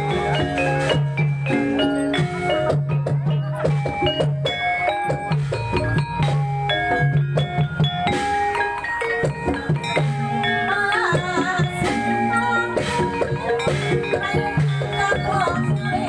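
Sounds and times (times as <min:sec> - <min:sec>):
low gong and drum pattern: 0:00.0 - 0:16.0
struck mallet instruments: 0:00.0 - 0:16.0
wavering melody: 0:00.0 - 0:16.0.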